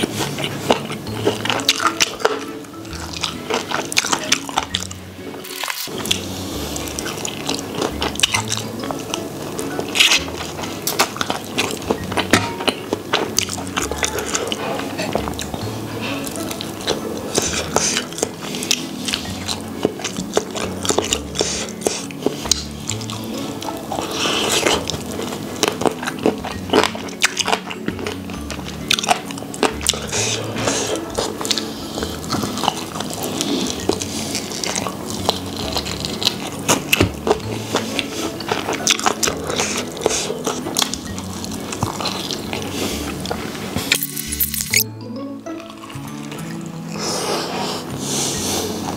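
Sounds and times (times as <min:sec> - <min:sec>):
chewing with wet smacking: 0:00.0 - 0:44.8
soft background music: 0:00.0 - 0:48.9.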